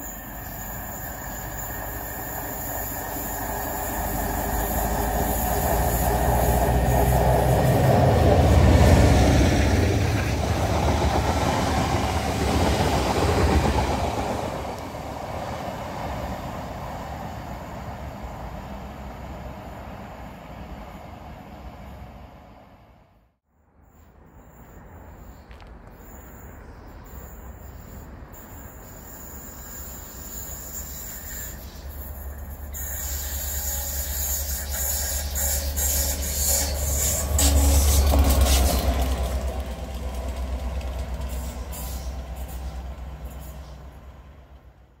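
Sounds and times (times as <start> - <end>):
train wheel noise: 0.0 - 23.2, 24.0 - 45.0
diesel locomotive engine rumble: 0.0 - 45.0.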